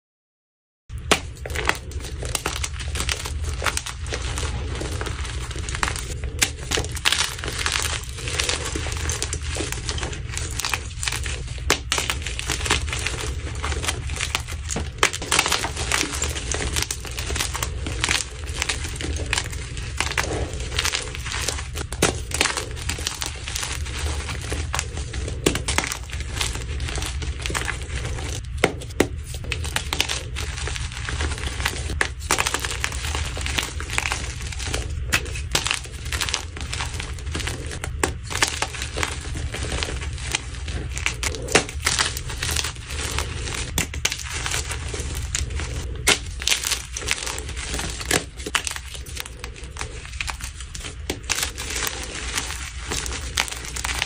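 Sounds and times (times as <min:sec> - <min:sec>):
chalk crunching and crumbling: 0:00.9 - 0:54.0
chalk pieces cracking: 0:00.9 - 0:54.0.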